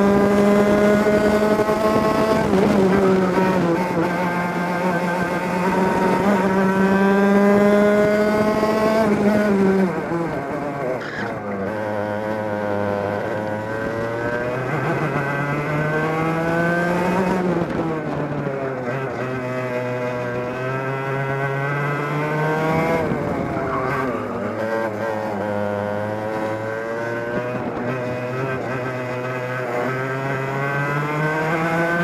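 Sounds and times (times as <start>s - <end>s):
kart engine running hard: 0.0s - 32.0s.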